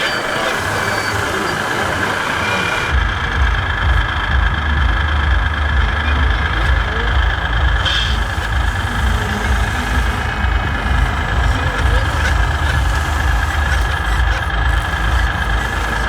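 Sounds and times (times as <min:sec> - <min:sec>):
model truck diesel engine idling: 0:00.0 - 0:16.0
murmur of exhibition hall: 0:00.0 - 0:16.0.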